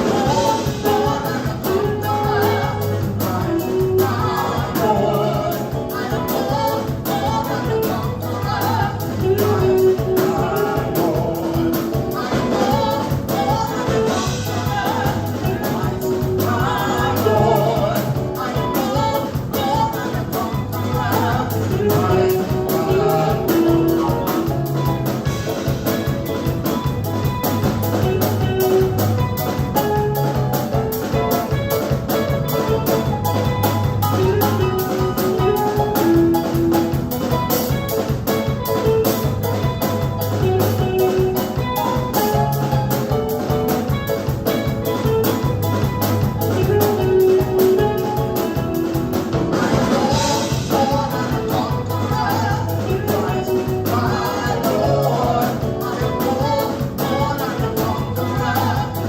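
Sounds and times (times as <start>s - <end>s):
bass line: 0.0s - 59.0s
drum kit beat: 0.0s - 59.0s
keyboard: 0.0s - 59.0s.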